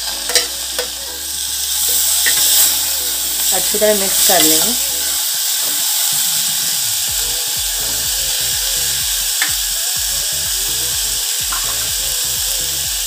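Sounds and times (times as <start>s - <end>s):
background music with beat: 0.0s - 13.0s
vegetables sizzling in a saucepan: 0.0s - 13.0s.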